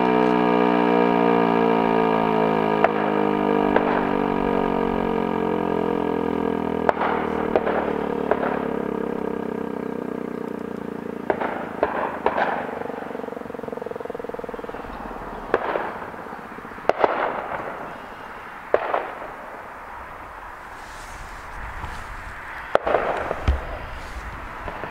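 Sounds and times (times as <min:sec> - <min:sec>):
warning siren winding down: 0:00.0 - 0:21.2.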